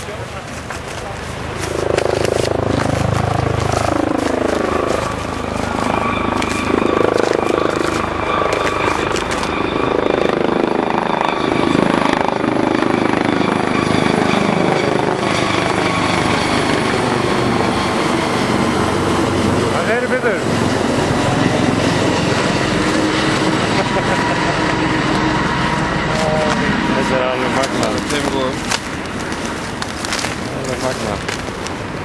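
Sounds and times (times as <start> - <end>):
helicopter turbine whine: 0.0 - 32.0
low rotor drone: 0.0 - 32.0.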